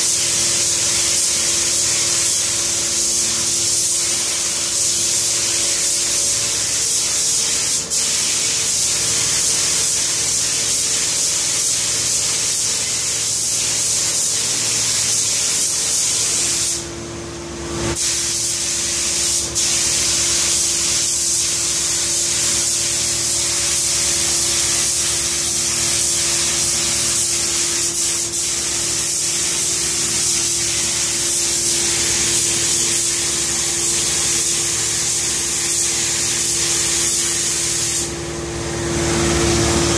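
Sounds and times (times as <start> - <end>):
spray gun hissing: 0.0 - 16.8, 17.9 - 38.2.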